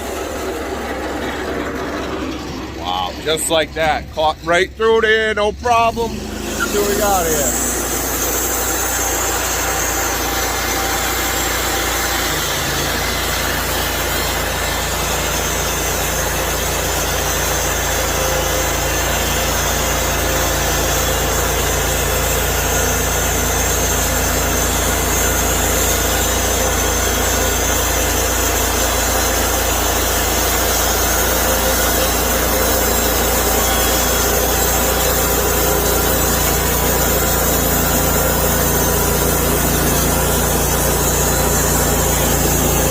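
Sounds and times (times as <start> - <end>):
saw cutting logs: 0.0 - 42.9
sawmill engine running: 0.0 - 42.9.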